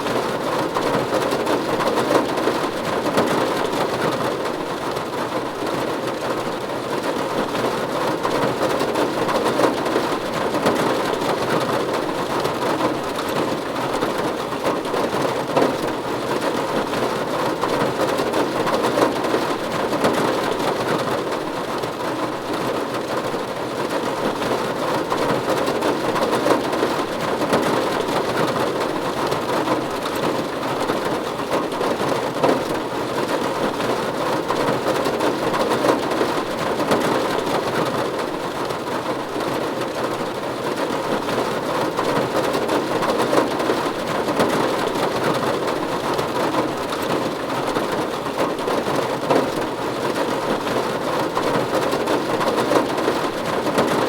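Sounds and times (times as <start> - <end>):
rain on a roof: 0.0 - 54.0.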